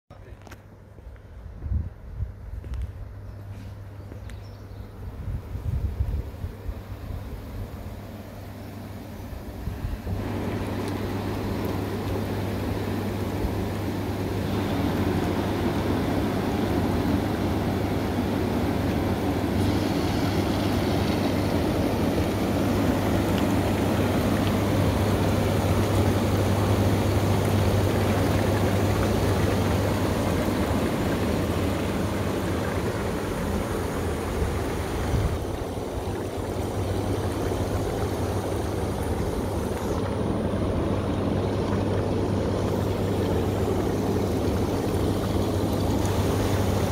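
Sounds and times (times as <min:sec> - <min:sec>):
pump motor hum: 0:00.2 - 0:46.9
churning rushing water: 0:09.0 - 0:46.9.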